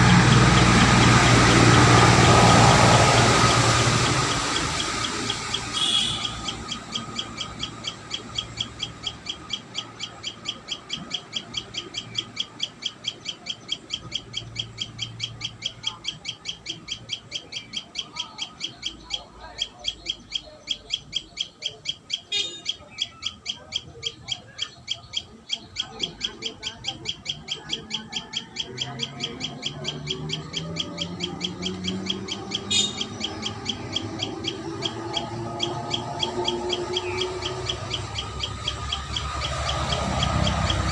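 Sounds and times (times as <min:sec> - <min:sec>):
bird lower rising calls: 0:00.0 - 0:40.9
bird sharp chip notes: 0:00.0 - 0:40.9.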